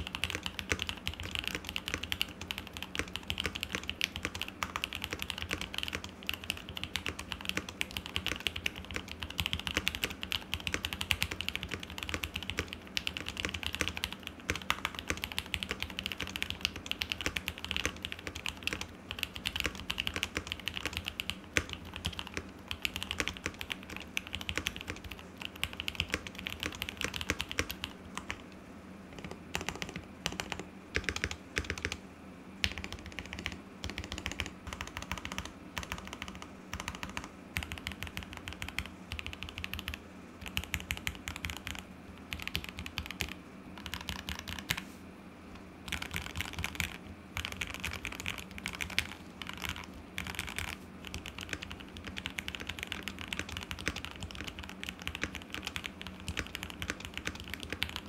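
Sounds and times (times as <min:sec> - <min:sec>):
mechanical keyboard typing: 0:00.0 - 0:28.4, 0:29.1 - 0:32.0, 0:32.6 - 0:44.8, 0:45.9 - 0:58.0.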